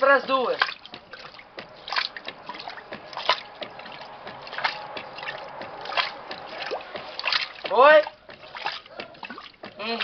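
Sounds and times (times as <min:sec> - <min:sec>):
washing machine water sloshing: 0:00.0 - 0:10.0.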